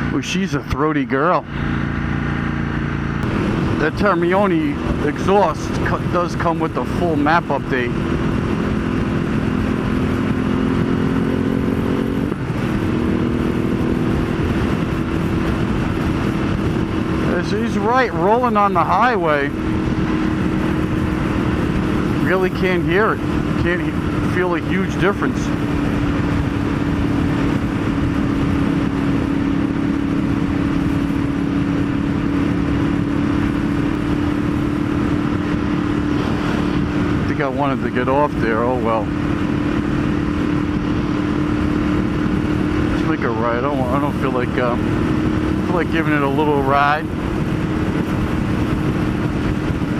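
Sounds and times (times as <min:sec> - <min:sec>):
motorcycle engine cruising: 0:00.0 - 0:49.9
rushing wind noise: 0:00.0 - 0:49.9.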